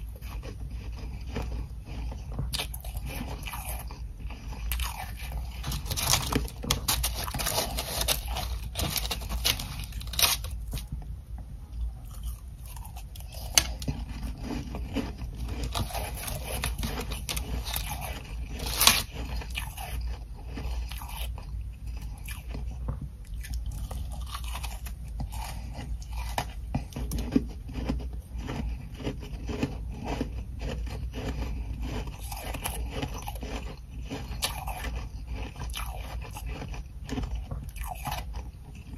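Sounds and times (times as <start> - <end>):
chewing and crunching ice: 0.0 - 38.9.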